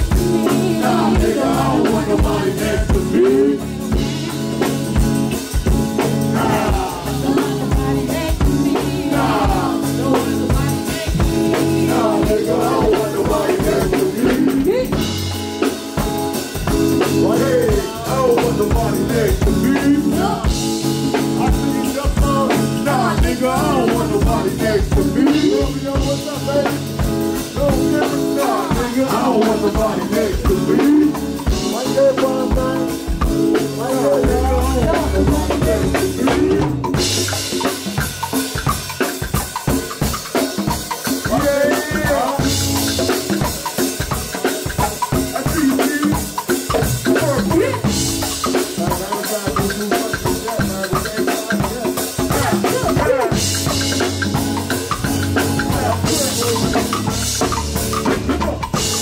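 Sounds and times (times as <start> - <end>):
vocalists singing: 0.0 - 38.0, 39.7 - 59.0
drums playing steady beat: 0.0 - 59.0.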